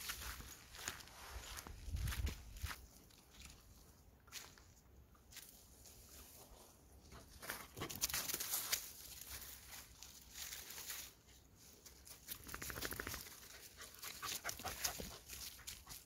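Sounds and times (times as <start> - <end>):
dry leaves crunching underfoot: 0.0 - 4.7, 7.4 - 16.0.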